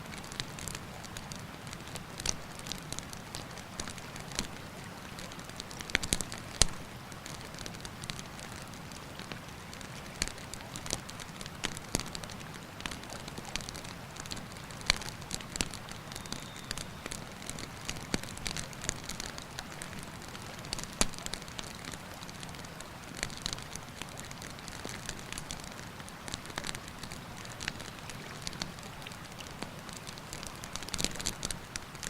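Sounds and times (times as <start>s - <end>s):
campfire crackling and popping: 0.1s - 32.0s.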